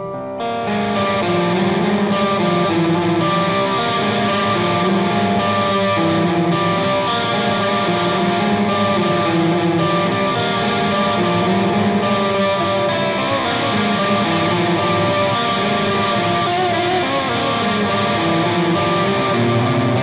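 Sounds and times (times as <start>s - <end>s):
distorted electric guitar riff: 0.0s - 20.0s.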